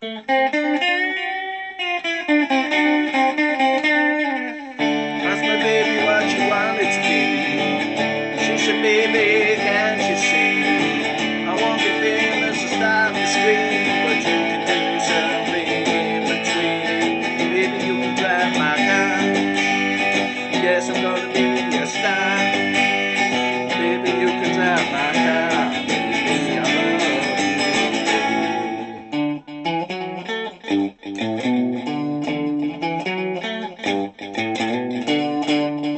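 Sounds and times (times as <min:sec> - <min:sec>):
strummed and plucked guitars: 0:00.0 - 0:35.9.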